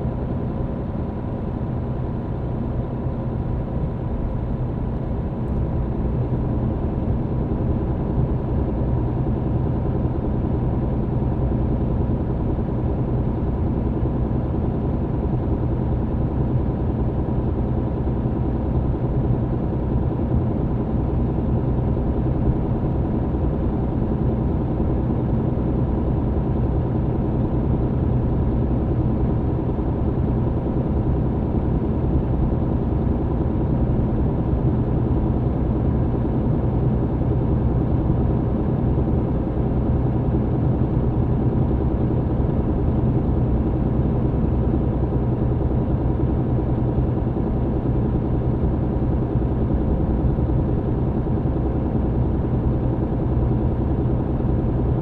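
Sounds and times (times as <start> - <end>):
truck engine and road drone: 0.0 - 55.0.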